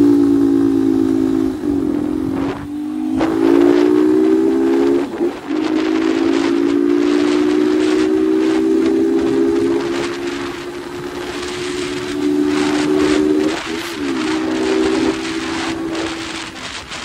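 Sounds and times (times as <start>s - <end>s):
motorcycle engine droning: 0.0s - 17.0s.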